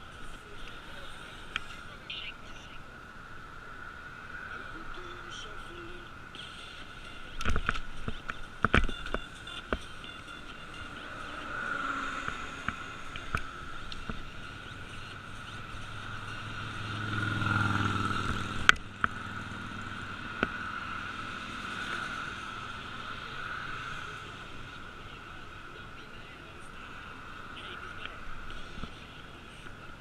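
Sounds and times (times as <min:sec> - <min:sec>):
motor vehicle passing: 0:02.8 - 0:29.6.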